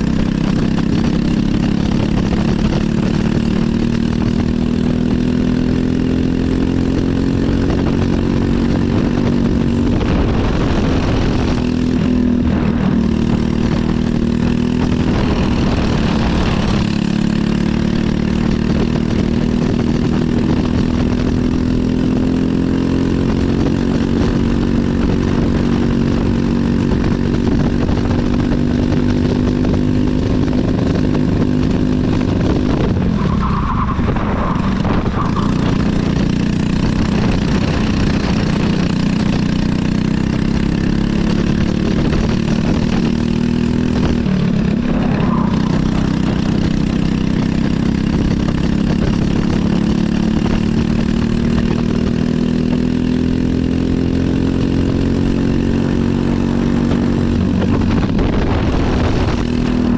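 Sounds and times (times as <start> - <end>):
kart engine under racing load: 0.0 - 59.9.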